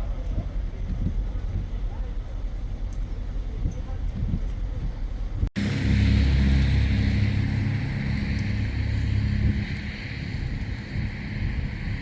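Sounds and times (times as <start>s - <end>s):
vehicle engine hum and road noise: 0.0s - 12.0s.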